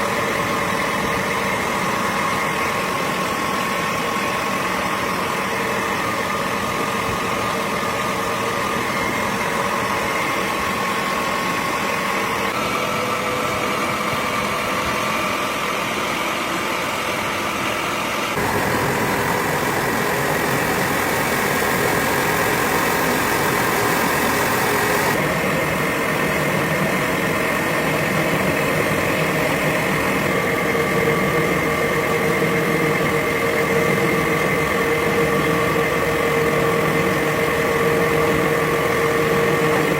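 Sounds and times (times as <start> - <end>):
factory machinery hum: 0.0 - 39.9.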